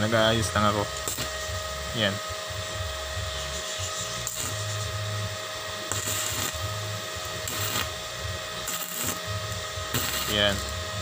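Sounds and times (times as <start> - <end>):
welding arc crackling: 0.0 - 11.0
welding machine whine and hum: 0.0 - 11.0.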